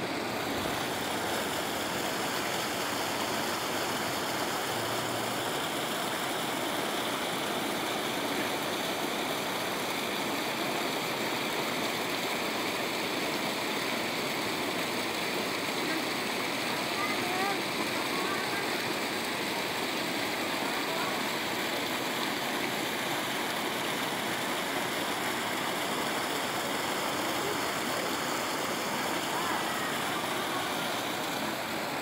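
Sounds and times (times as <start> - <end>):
water pouring into pond: 0.0 - 32.0.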